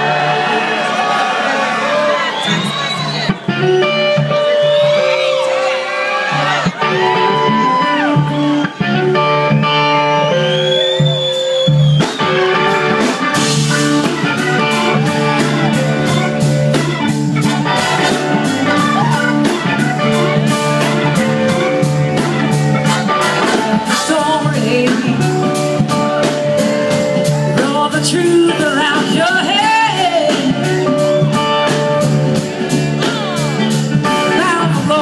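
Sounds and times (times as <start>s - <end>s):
blues rock band playing: 0.0s - 35.0s.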